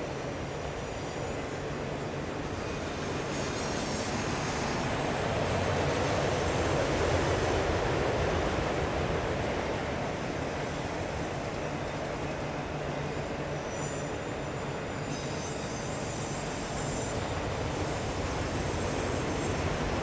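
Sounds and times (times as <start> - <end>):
train wheels rumbling on rail: 0.0 - 20.0
high wheel squeal: 2.6 - 20.0.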